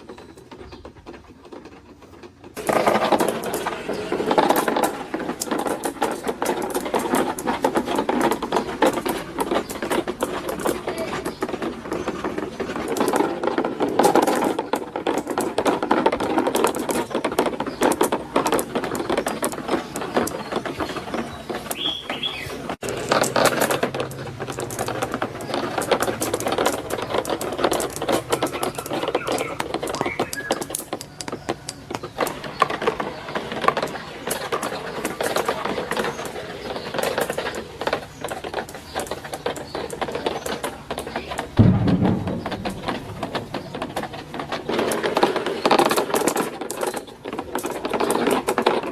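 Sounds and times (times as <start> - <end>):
marbles rattling down plastic track: 2.5 - 48.9.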